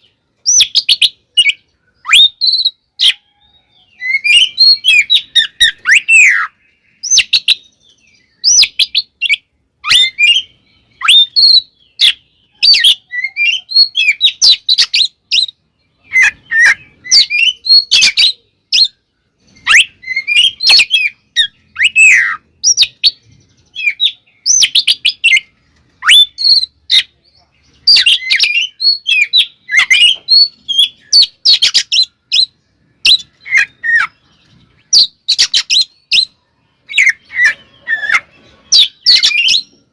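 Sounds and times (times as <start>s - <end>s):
bird singing sharp chirps: 0.0s - 39.9s.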